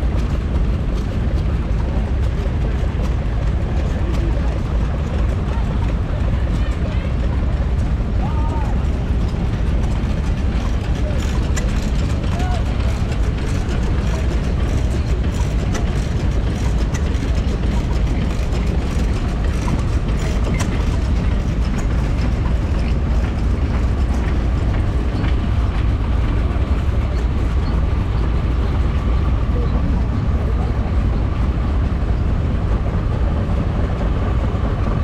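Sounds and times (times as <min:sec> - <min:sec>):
stationary engine running: 0:00.0 - 0:35.0.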